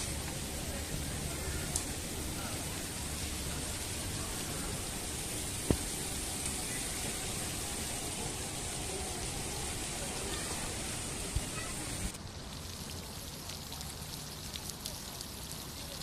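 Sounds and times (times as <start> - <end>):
running water splashing: 0.0 - 16.0
water trickling and dripping: 0.0 - 16.0.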